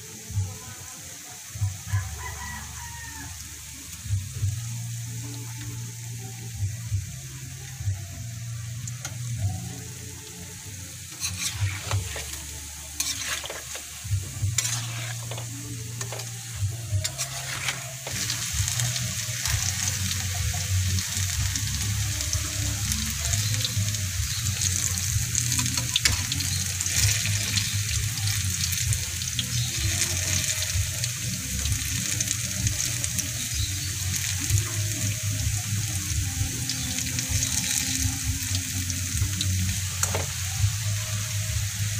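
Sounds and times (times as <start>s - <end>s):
bananas sizzling in hot oil: 0.0s - 41.9s.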